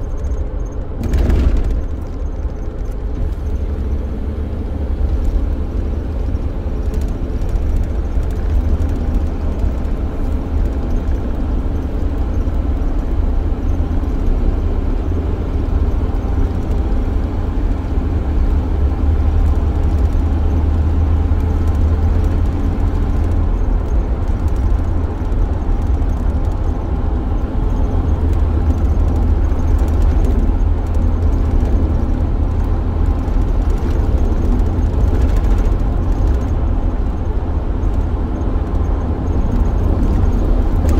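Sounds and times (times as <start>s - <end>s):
engine and road noise rumble: 0.0s - 40.9s.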